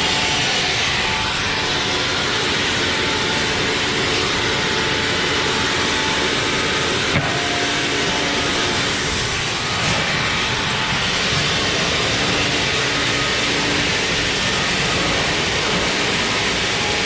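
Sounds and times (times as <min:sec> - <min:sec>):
faint machine whine: 0:00.0 - 0:17.0
sawmill machinery running: 0:00.0 - 0:17.0.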